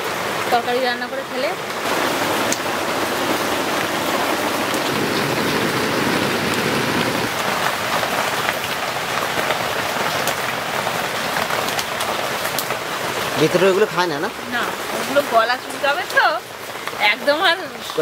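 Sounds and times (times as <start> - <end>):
steady rain falling: 0.0 - 18.0
rain drop ticks: 1.4 - 2.8, 3.6 - 18.0.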